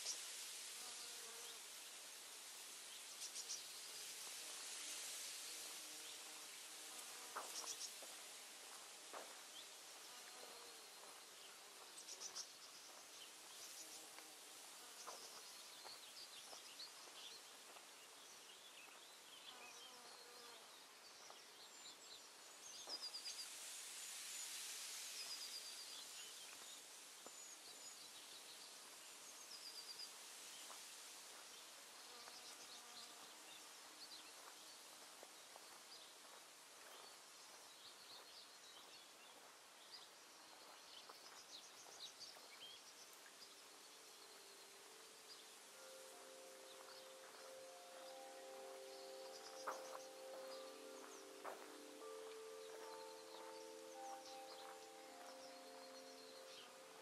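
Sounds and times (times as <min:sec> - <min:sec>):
high hiss: 0:00.0 - 0:18.6, 0:19.2 - 0:57.0.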